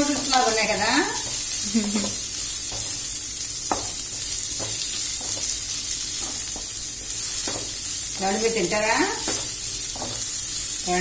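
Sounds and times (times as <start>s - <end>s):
spatula scraping and knocking pan: 0.0s - 10.7s
vegetables sizzling in oil: 0.0s - 11.0s.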